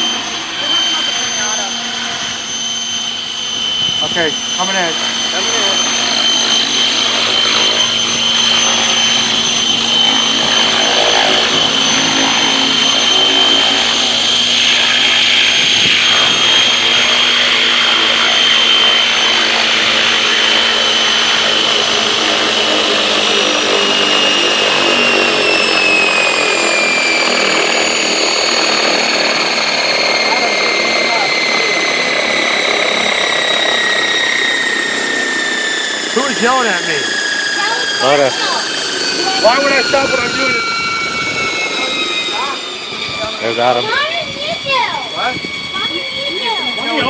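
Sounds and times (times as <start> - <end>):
remote-control helicopter whine: 0.0 - 47.0.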